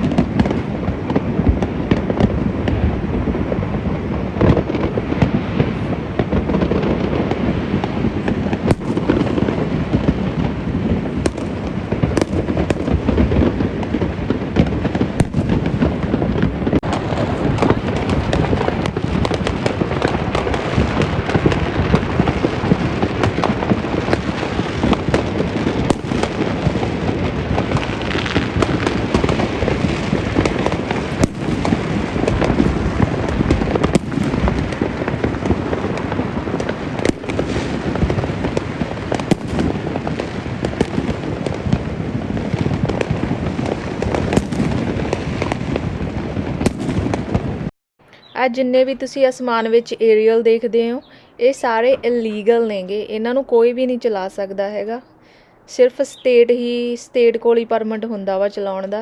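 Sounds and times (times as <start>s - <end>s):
fireworks and firecrackers crackling: 0.0s - 55.0s.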